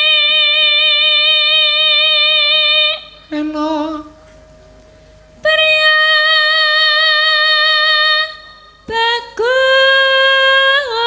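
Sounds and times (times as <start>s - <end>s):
woman singing long held notes: 0.0s - 4.2s, 5.4s - 11.0s.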